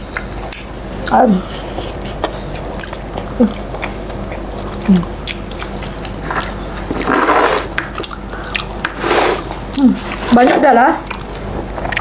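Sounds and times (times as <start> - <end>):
crunchy fried food chewing: 0.0 - 10.3.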